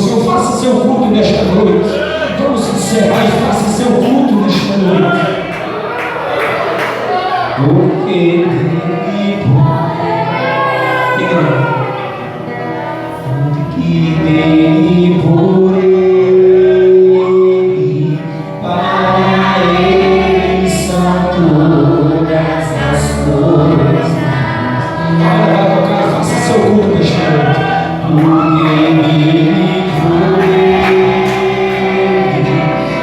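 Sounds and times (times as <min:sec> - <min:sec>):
group singing a hymn: 0:00.0 - 0:33.0.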